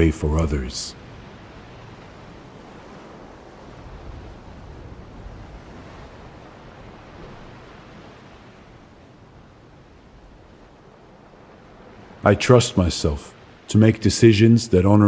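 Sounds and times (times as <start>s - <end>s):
rushing nature background: 0.0s - 9.1s, 9.7s - 15.0s.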